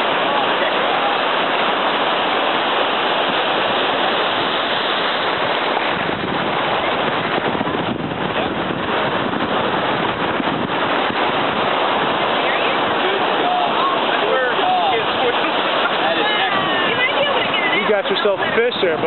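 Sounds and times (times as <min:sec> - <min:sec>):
surf washing up a beach: 0:00.0 - 0:19.0
wind noise on microphone: 0:00.0 - 0:19.0.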